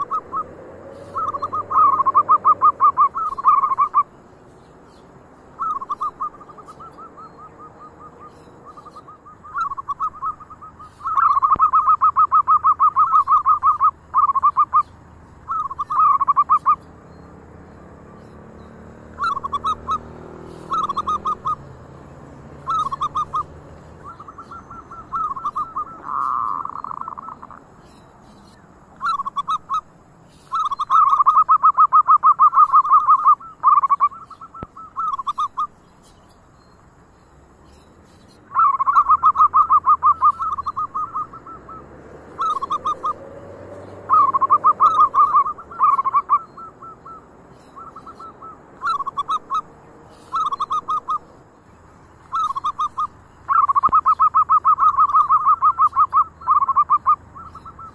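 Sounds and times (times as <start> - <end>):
doves cooing: 0.0 - 4.3, 4.9 - 27.9, 28.9 - 35.7, 38.4 - 51.5, 52.2 - 57.9.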